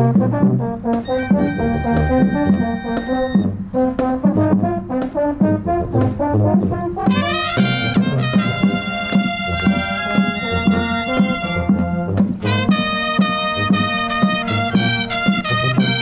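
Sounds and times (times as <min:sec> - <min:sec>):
drum beat: 0:00.0 - 0:16.0
marching band brass chords: 0:00.0 - 0:16.0.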